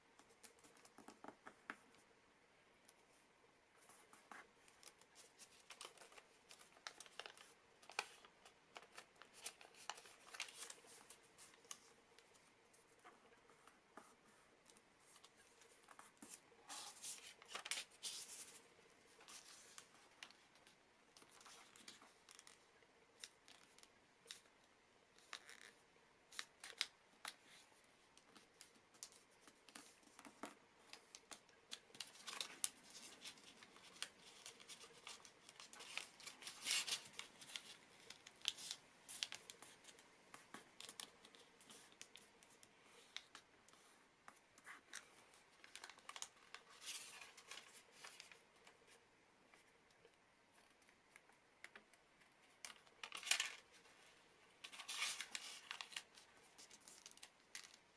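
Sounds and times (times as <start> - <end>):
paper rustling: 3.8 - 24.4, 25.2 - 49.0, 50.6 - 57.9.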